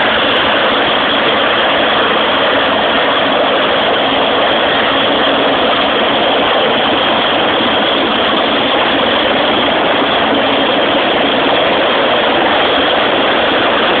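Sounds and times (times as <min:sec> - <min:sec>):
helicopter turbine and rotor: 0:00.0 - 0:14.0.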